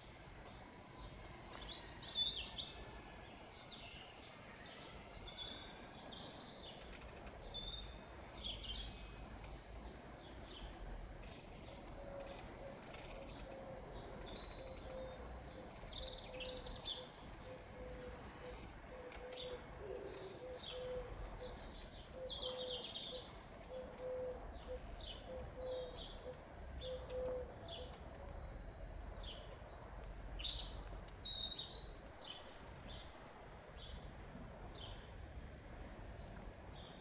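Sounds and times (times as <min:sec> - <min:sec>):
faint low background noise: 0:00.0 - 0:37.0
faint steady hum: 0:00.0 - 0:37.0
small birds chirping and singing: 0:00.0 - 0:37.0.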